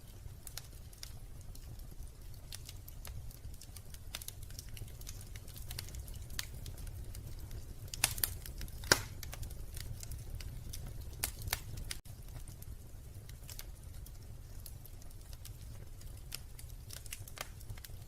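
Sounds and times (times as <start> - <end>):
loud fire pops: 0.0 - 18.0
wood fire crackling: 0.0 - 18.0.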